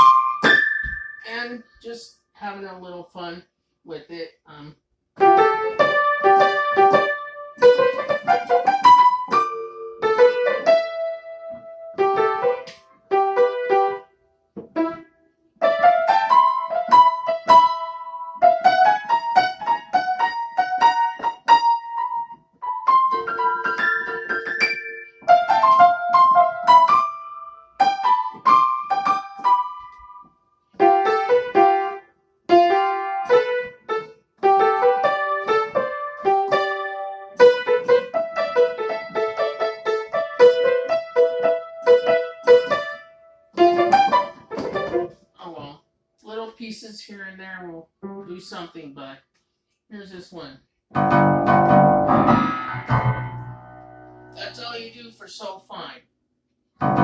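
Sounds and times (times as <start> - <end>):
piano chords and melody: 0.0 - 1.4, 5.2 - 45.3, 50.9 - 54.8, 56.8 - 57.0.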